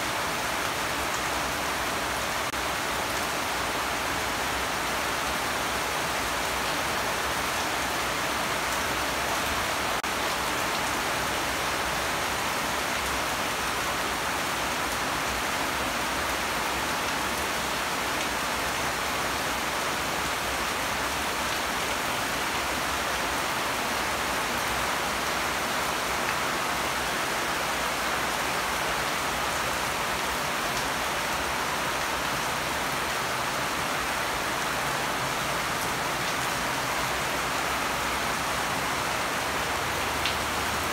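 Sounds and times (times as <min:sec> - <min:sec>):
heavy rain on foliage: 0:00.0 - 0:40.9.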